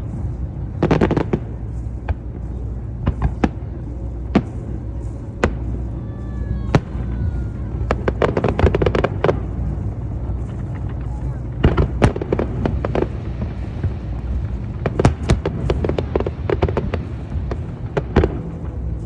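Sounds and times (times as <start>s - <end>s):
firework bangs: 0.0s - 19.0s
low rumble: 0.0s - 19.0s.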